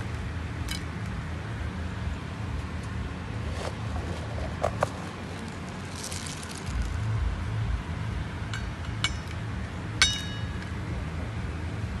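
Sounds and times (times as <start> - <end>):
low handling rumble: 0.0 - 12.0.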